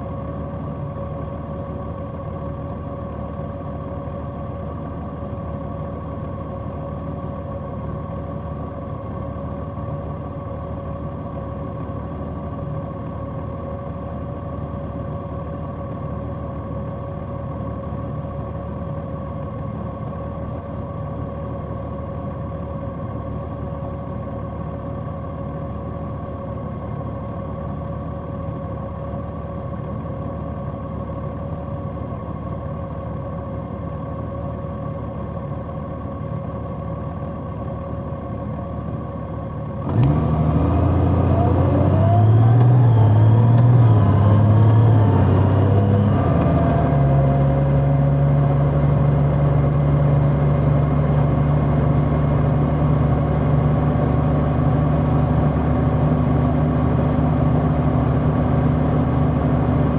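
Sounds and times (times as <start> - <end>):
motorcycle engine running steadily: 0.0 - 39.9, 42.6 - 59.9.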